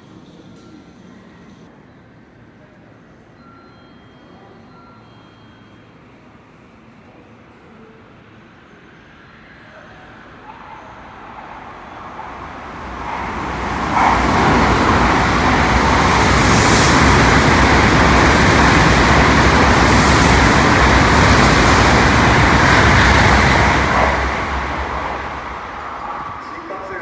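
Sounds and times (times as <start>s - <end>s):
high-speed train passing: 0.0s - 27.0s.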